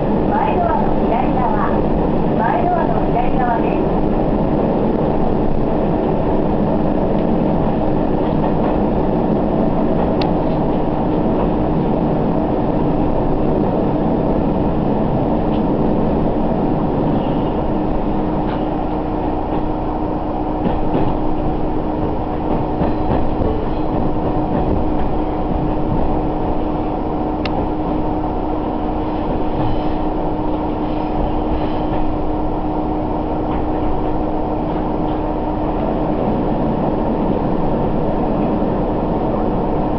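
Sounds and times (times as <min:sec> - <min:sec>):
constant hum: 0:00.0 - 0:39.9
railcar engine and wheels rumbling: 0:00.0 - 0:39.9.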